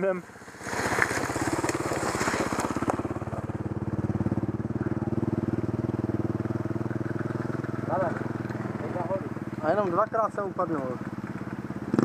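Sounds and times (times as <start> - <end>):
motorcycle engine idling: 0.2 - 12.0.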